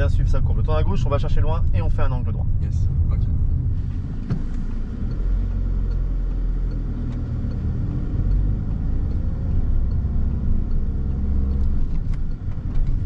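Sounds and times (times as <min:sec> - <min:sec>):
car cabin engine and road rumble: 0:00.0 - 0:13.0.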